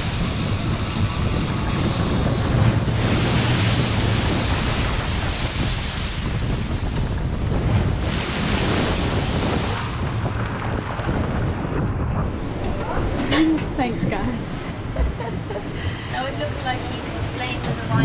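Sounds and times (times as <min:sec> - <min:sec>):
breaking waves and spray: 0:00.0 - 0:18.0
deep rumble: 0:00.0 - 0:18.0
wind buffeting microphone: 0:00.0 - 0:18.0.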